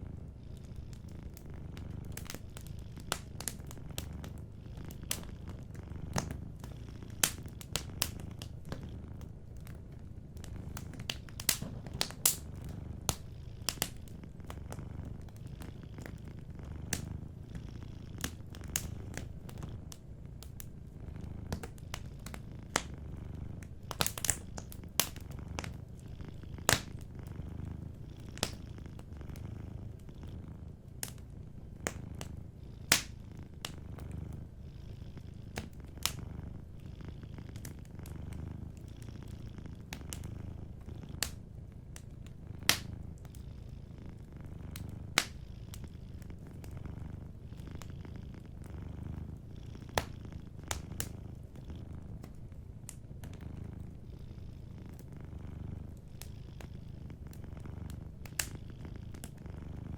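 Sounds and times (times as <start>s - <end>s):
cat purring: 0.0s - 59.9s
wood fire crackling: 0.0s - 59.9s.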